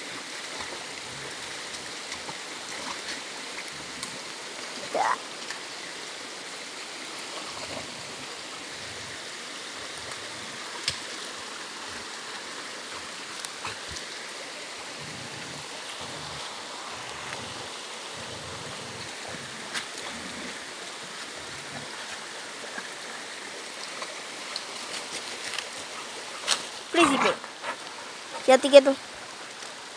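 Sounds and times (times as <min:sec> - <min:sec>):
stream rushing over rocks: 0:00.0 - 0:29.9.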